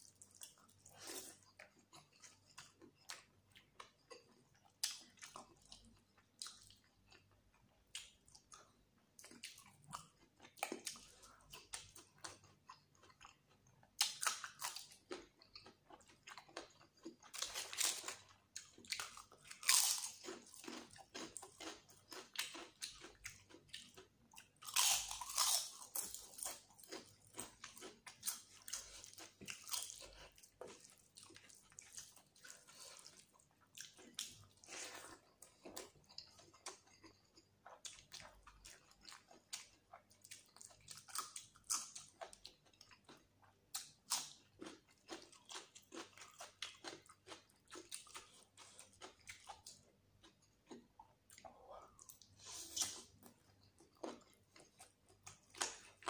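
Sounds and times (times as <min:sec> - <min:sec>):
chewing and lip-smacking: 0:00.0 - 0:56.0.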